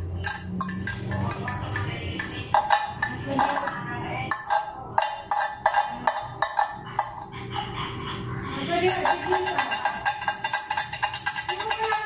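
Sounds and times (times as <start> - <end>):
fork clinking in glass dish: 0.0 - 7.3, 8.8 - 12.0.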